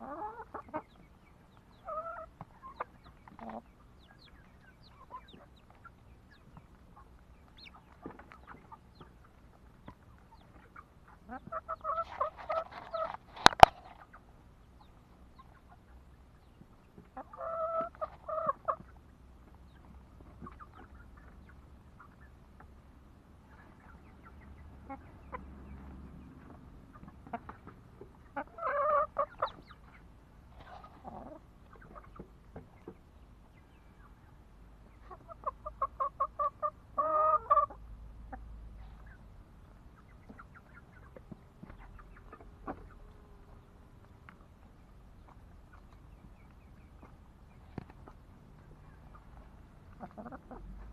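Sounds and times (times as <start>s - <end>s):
chickens clucking: 0.0s - 50.9s.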